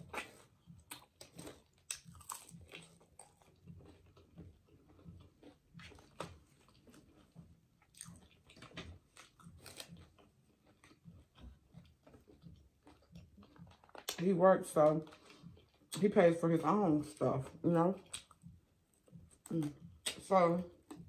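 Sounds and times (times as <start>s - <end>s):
person chewing: 0.0s - 16.1s, 17.1s - 21.0s.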